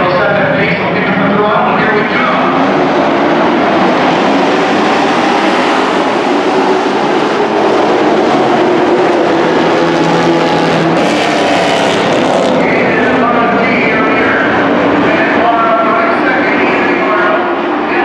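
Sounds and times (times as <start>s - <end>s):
racing truck engines droning: 0.0s - 18.0s.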